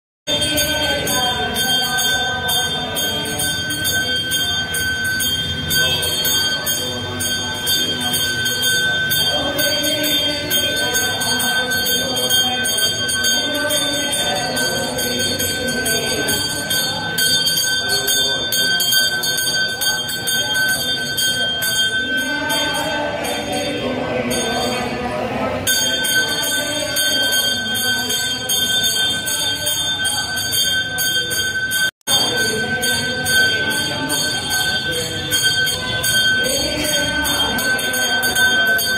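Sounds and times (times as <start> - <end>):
bell ringing rapidly: 0.3 - 25.0, 25.6 - 38.9
murmur of voices: 0.3 - 38.9.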